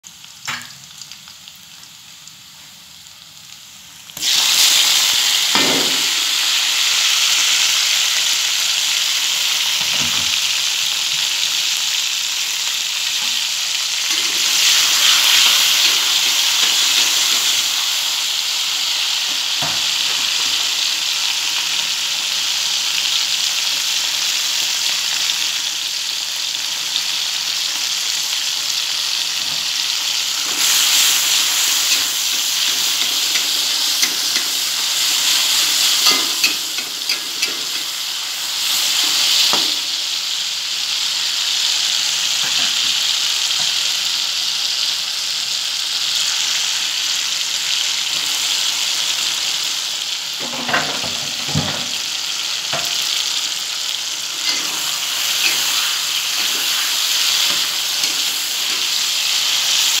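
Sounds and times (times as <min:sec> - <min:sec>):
food sizzling in hot oil: 0:00.0 - 1:00.0.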